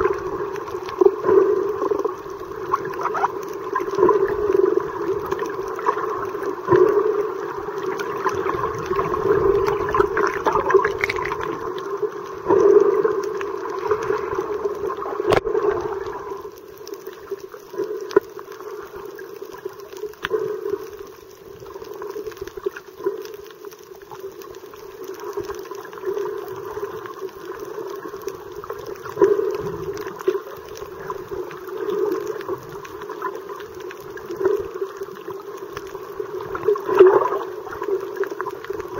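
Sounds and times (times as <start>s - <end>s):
muffled underwater water sloshing: 0.0s - 38.9s.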